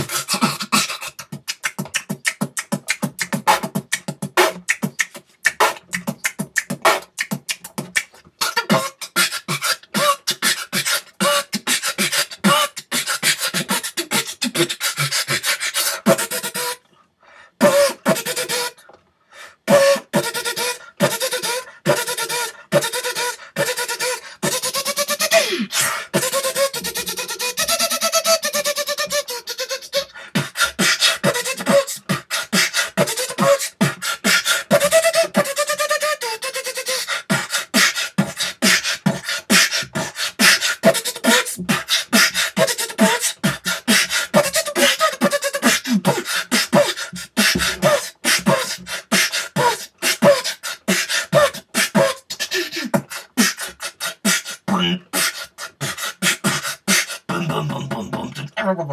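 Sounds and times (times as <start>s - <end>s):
beatboxing drum sounds: 0.0s - 16.9s, 17.6s - 19.0s, 19.6s - 58.6s.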